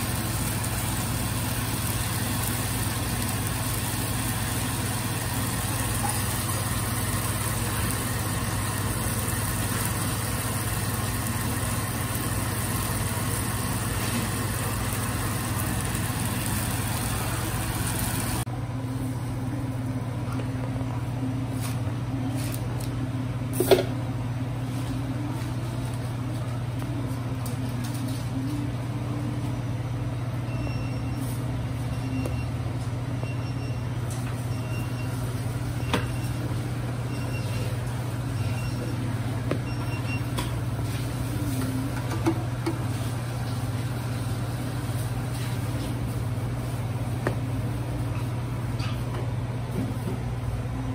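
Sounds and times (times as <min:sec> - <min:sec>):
kitchen equipment hum: 0:00.0 - 0:50.9.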